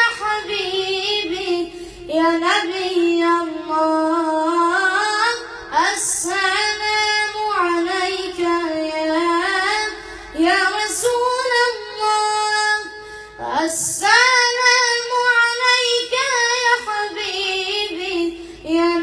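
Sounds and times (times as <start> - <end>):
child singing unaccompanied: 0.0 - 19.0.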